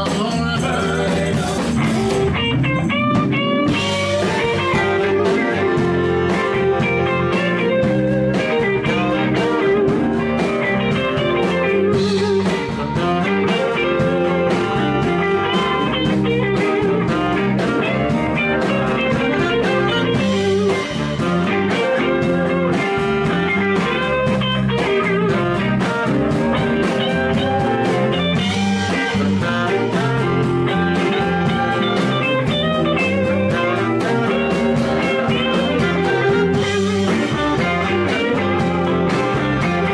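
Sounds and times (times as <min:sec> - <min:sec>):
blues-rock band playing: 0:00.0 - 0:39.9.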